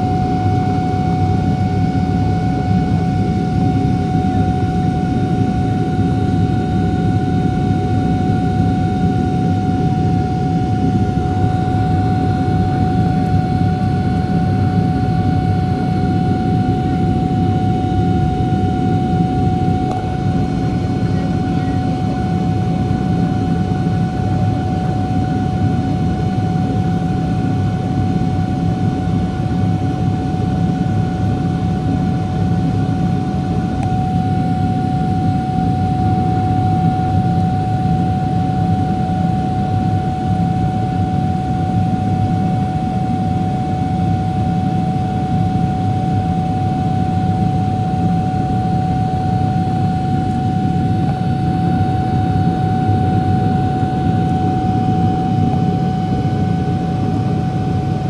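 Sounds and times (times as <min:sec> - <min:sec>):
deep jet engine rumble: 0:00.0 - 0:58.0
jet engine whine: 0:00.0 - 0:58.0.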